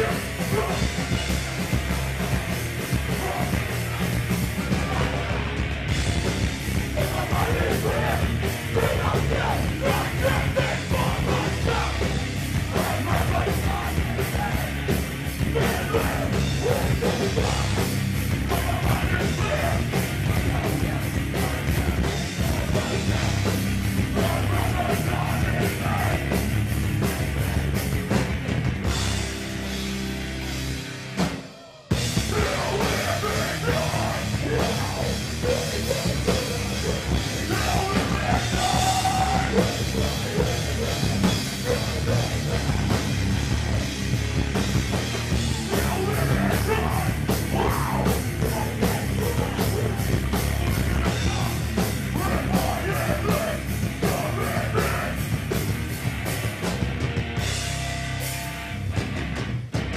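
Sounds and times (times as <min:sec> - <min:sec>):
hardcore punk band playing: 0:00.0 - 0:59.9.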